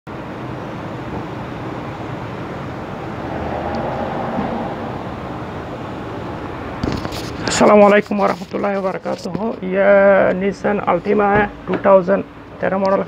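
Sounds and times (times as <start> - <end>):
machinery humming: 0.1 - 13.0.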